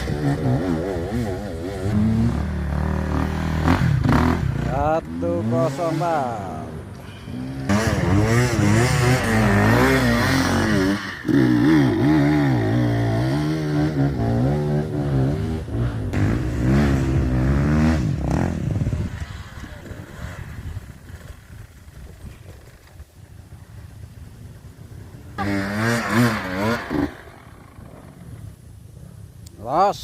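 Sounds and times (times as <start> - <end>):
motorcycle engine revving: 0.0 - 23.0, 25.1 - 28.6.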